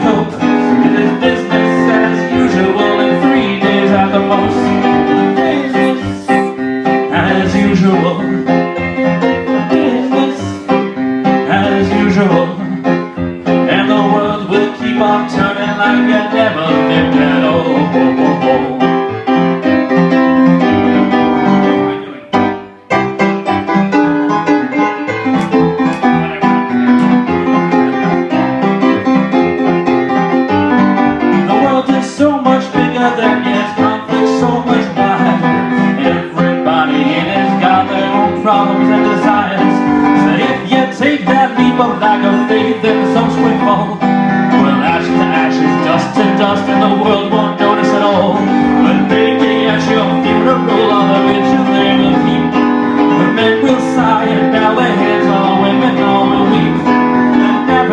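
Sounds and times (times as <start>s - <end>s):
person singing: 0.0s - 19.6s, 24.4s - 28.7s, 31.2s - 57.9s
keyboard chords: 0.0s - 57.9s.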